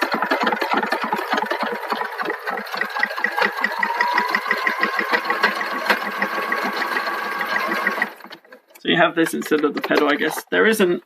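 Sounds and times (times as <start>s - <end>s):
sewing machine stitching: 0.0s - 10.7s.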